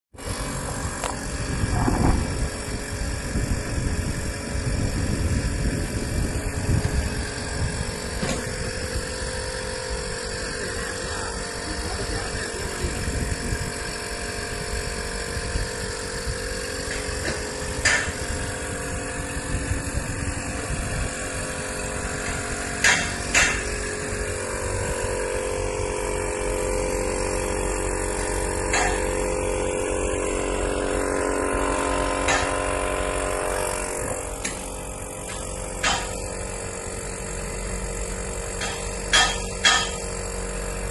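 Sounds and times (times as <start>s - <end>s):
machine motor hum: 0.2s - 40.9s.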